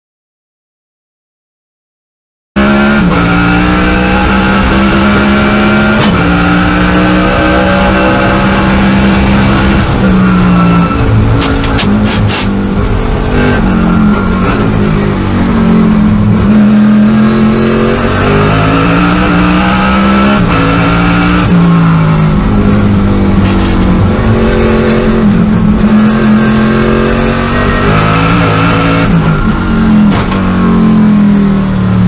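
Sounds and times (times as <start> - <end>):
race car engine accelerating: 2.6 - 32.0.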